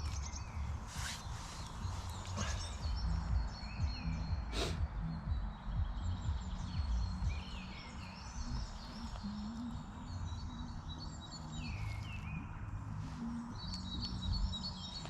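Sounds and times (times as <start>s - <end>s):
songbirds chirping and warbling: 0.0s - 15.0s.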